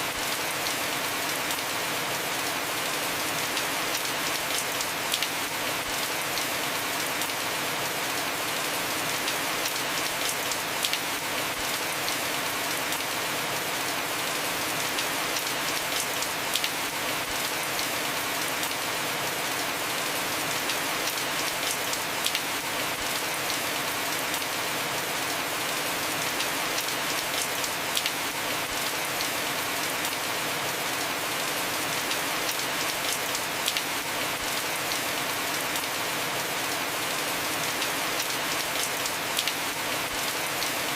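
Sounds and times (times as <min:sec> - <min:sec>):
heavy rain on a roof: 0:00.0 - 0:40.9.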